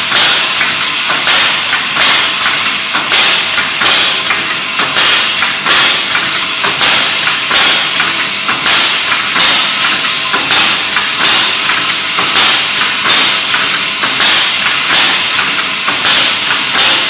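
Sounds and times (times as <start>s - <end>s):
pneumatic stapler firing: 0.1s - 17.0s.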